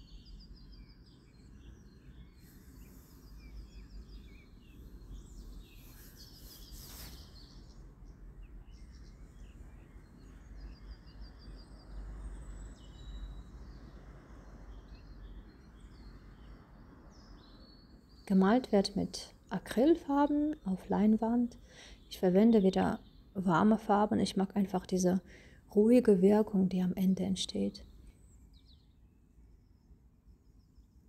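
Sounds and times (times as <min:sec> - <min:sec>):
birds chirping and trilling: 0:00.0 - 0:25.5.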